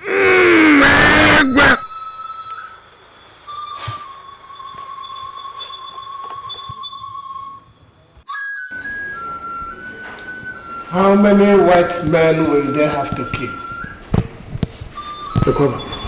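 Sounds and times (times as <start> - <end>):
crickets chirping: 0.0 - 16.0
soft sustained tone: 1.9 - 16.0.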